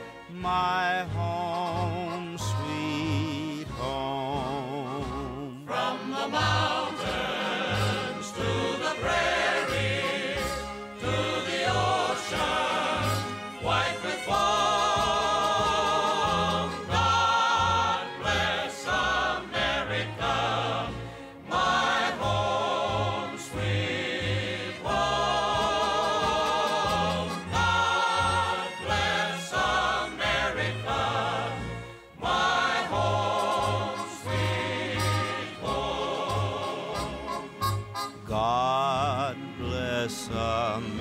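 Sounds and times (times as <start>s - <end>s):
orchestra playing: 0.0s - 41.0s
choir singing: 2.5s - 41.0s.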